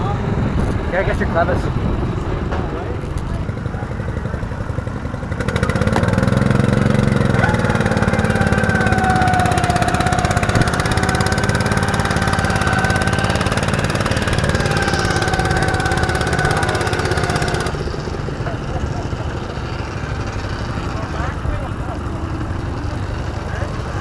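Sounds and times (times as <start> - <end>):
garden tractor engine running: 0.0 - 24.0.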